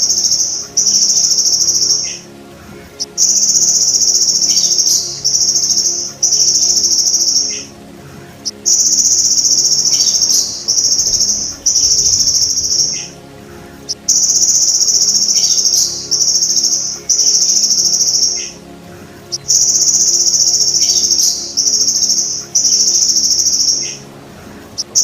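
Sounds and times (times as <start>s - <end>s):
grasshopper buzzing trills: 0.0s - 25.0s.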